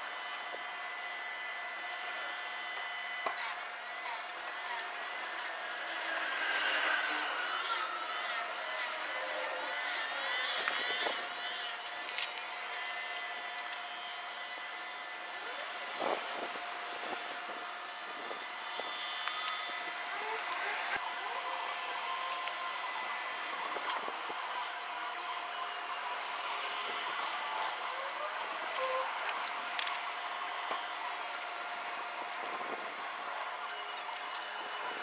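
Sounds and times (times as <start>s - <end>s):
steady high hiss: 0.0s - 35.0s.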